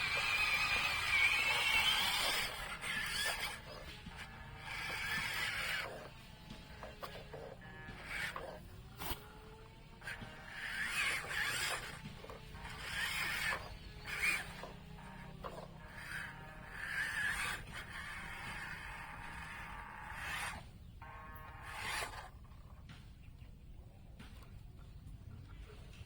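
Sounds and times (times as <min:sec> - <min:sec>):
rubbing and scraping: 0:00.0 - 0:22.9
toy motors and gears whining: 0:00.0 - 0:23.2.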